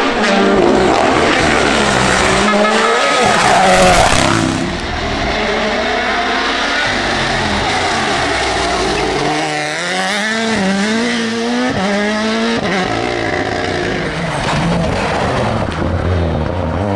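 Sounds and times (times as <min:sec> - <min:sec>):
rally car engine revving: 0:00.0 - 0:16.9
tyre and road noise: 0:00.0 - 0:16.9.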